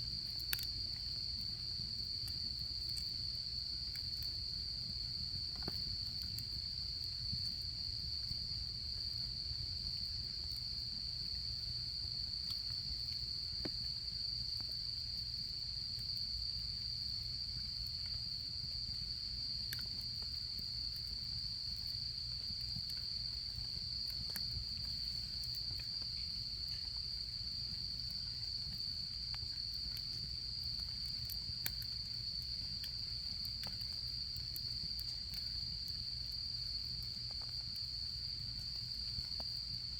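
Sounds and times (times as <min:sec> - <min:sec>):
campfire crackling and popping: 0:00.0 - 0:39.9
crickets trilling: 0:00.0 - 0:39.9.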